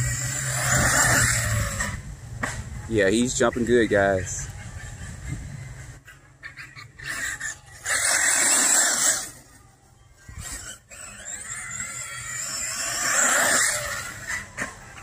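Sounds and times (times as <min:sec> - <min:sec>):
rc buggy tyre and drivetrain noise: 0:00.0 - 0:15.0.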